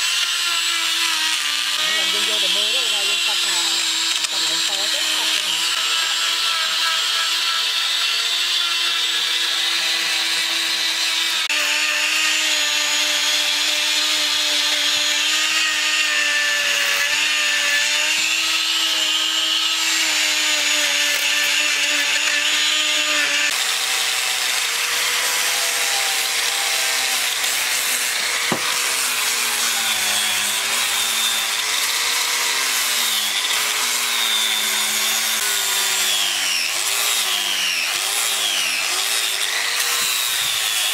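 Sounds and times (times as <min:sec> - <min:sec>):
angle grinder sanding wood: 0:00.0 - 0:40.9
power tool motors whining: 0:00.0 - 0:40.9.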